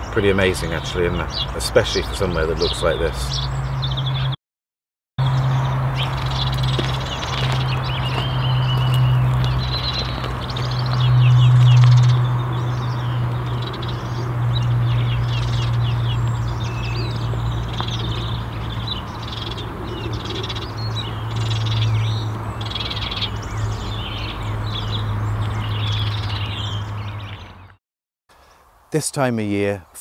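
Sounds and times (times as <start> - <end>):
starling singing: 0.0 - 4.4, 5.2 - 27.7.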